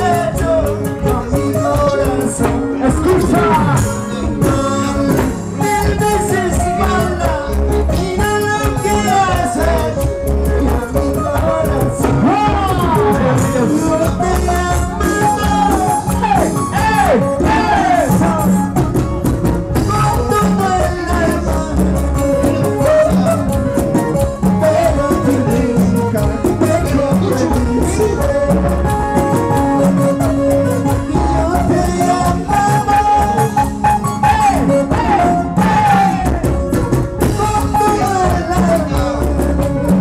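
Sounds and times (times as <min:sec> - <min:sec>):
live band playing folk music: 0:00.0 - 0:40.0
person singing: 0:00.0 - 0:40.0.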